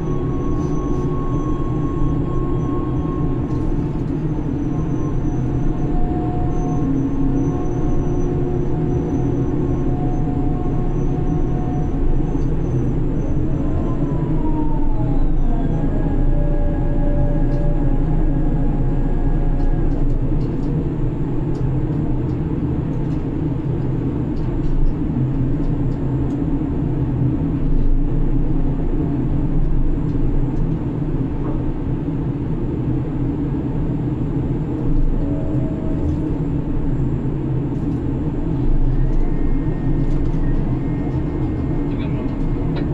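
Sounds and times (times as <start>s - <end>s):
crane machinery droning: 0.0s - 42.9s.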